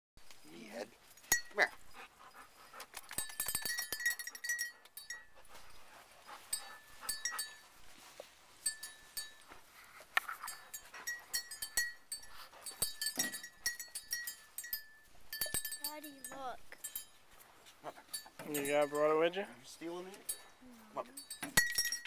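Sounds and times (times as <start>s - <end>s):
dog collar bell jingling: 1.0s - 7.9s, 8.6s - 9.6s, 10.2s - 22.0s.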